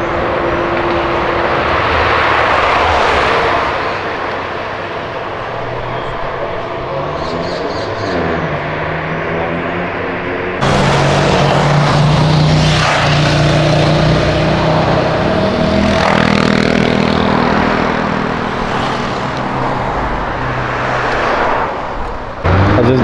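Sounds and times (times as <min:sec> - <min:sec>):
car engines accelerating: 0:00.0 - 0:23.0.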